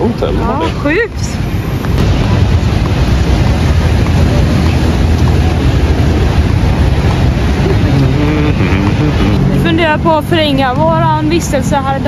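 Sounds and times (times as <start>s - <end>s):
street traffic: 0.0s - 12.0s
wind buffeting microphone: 0.0s - 12.0s.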